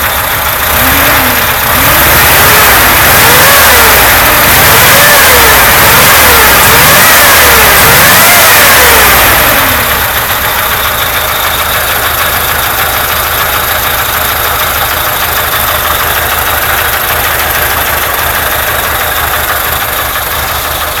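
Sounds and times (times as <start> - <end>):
car engine idling with knock: 0.0 - 21.0.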